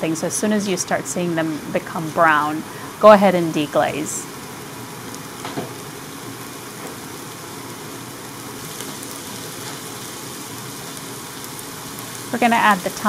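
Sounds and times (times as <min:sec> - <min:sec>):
vegetables sizzling in a pot: 0:00.0 - 0:13.0.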